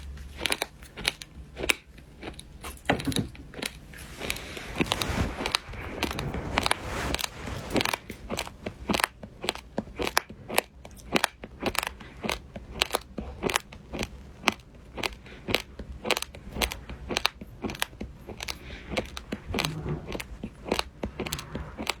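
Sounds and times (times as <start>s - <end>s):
crunchy eating: 0.0s - 22.0s.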